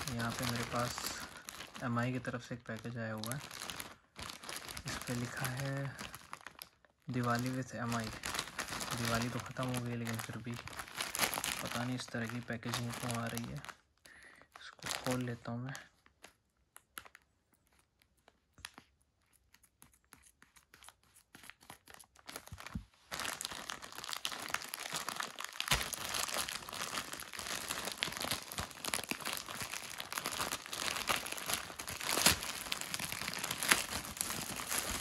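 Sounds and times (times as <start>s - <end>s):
plastic bag crinkling and tearing: 0.0s - 35.0s.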